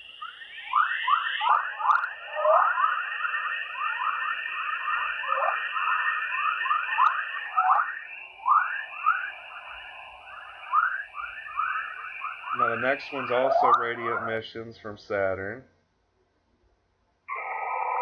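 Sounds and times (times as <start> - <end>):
steady high tone: 0.0 - 14.5.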